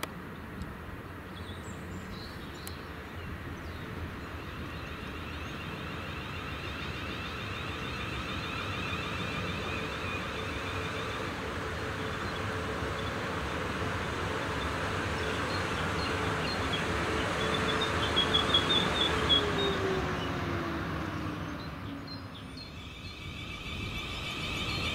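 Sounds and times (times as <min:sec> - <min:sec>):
train rumbling on rails: 0:00.0 - 0:24.9
high rippling electric whine: 0:01.7 - 0:24.9.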